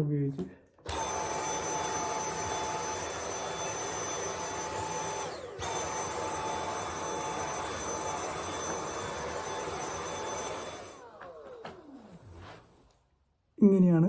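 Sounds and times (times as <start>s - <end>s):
vacuum cleaner running: 0.8s - 13.0s.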